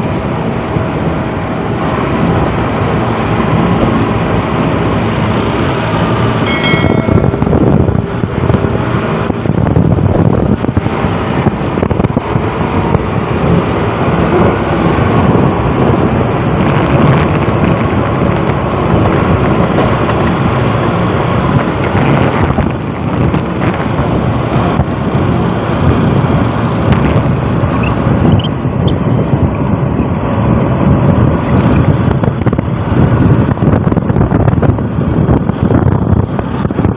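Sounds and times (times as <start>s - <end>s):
diesel engine running loudly: 0.0s - 36.9s.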